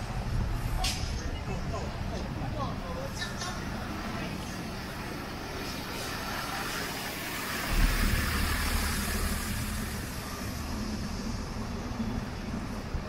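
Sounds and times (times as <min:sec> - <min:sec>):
city noise: 0:00.0 - 0:13.0
vehicle engine rumble: 0:00.0 - 0:13.0.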